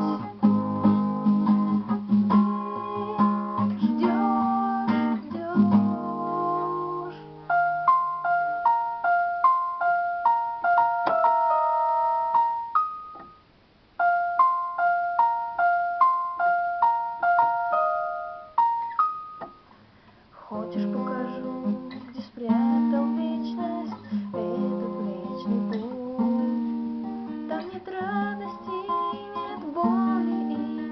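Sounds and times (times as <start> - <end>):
solo instrumental music: 0.0 - 19.7, 20.5 - 30.9.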